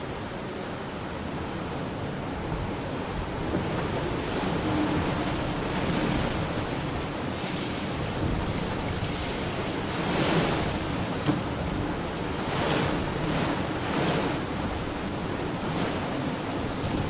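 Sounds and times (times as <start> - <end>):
water rushing past boat hull: 0.1 - 17.0
wind on microphone: 1.2 - 17.0.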